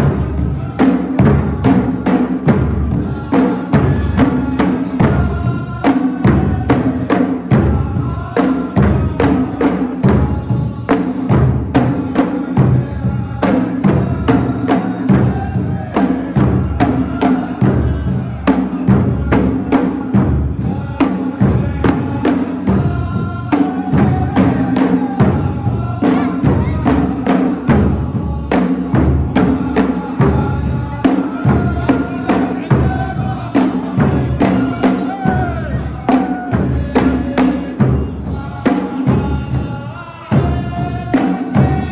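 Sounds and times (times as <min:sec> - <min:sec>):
fast drum beat: 0:00.0 - 0:41.9
group of voices singing: 0:00.0 - 0:41.9.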